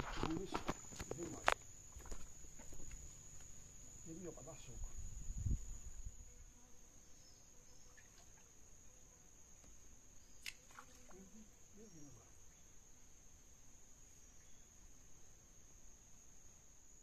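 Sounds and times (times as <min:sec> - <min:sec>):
high-pitched cricket trill: 0:00.0 - 0:17.0.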